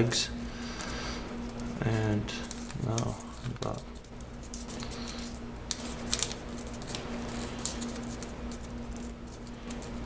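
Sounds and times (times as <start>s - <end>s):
paper being folded and creased: 1.5s - 10.0s.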